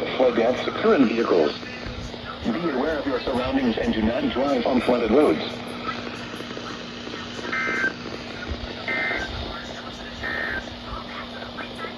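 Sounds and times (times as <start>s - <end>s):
radio hiss: 0.0s - 11.9s.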